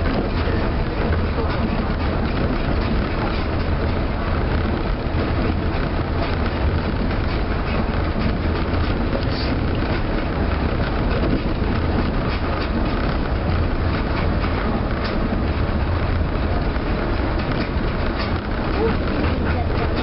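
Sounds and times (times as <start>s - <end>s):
rumble of tyres and running gear: 0.0s - 20.0s.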